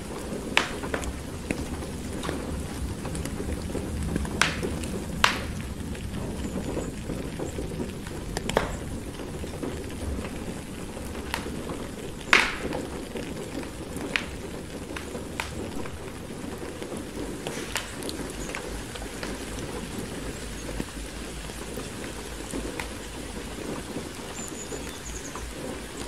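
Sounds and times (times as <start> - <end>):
burning logs popping: 0.0 - 26.0
rain hiss: 0.0 - 26.0
wood fire crackling: 0.0 - 26.0.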